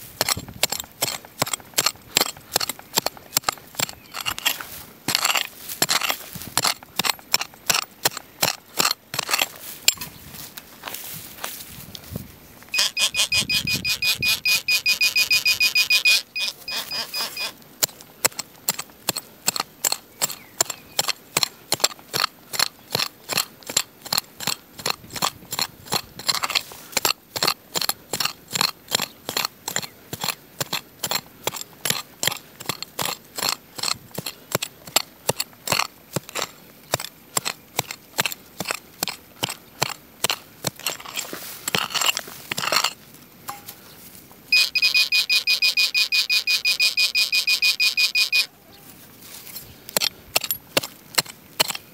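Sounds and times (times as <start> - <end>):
metal detector ticking: 0.1 - 10.1, 12.6 - 43.8, 44.5 - 48.5.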